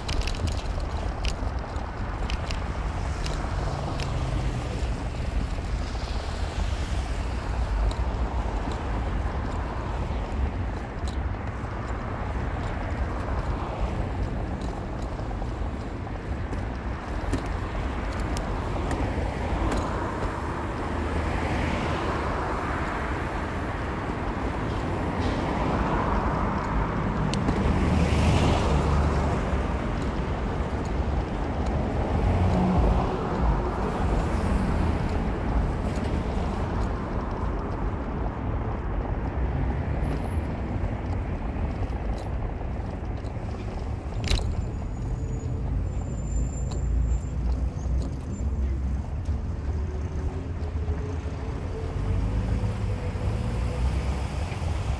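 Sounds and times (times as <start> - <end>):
car engine and road rumble: 0.0 - 54.9
traffic noise: 0.0 - 54.9.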